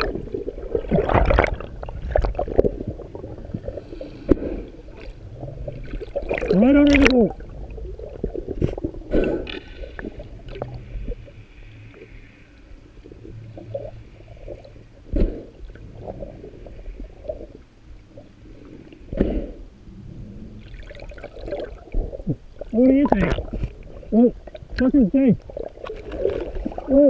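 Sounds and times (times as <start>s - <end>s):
underwater rumbling and gurgling: 0.0s - 27.0s.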